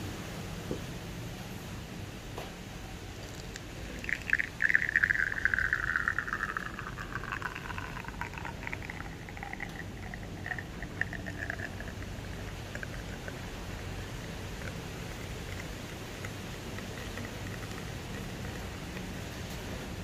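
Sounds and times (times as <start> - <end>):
espresso trickling into glass mug: 3.2 - 19.8.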